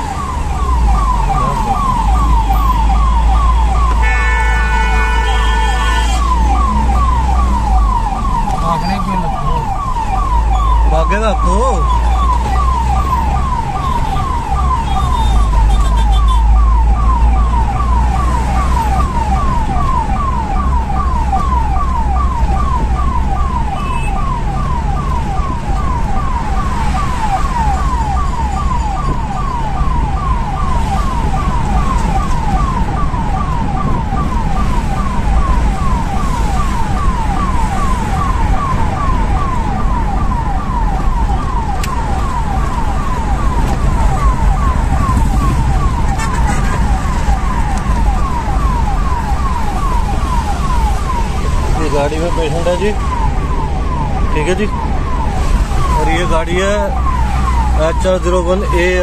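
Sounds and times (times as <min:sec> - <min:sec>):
engine and road rumble: 0:00.0 - 0:59.0
siren on fast yelp: 0:00.0 - 0:59.0.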